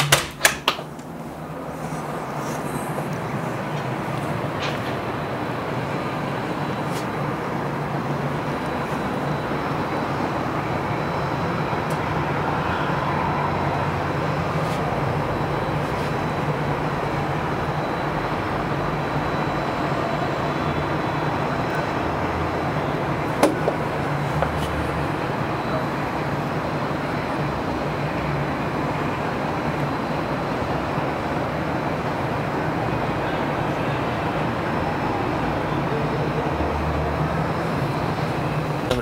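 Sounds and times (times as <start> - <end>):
distant city traffic: 0.0 - 39.0.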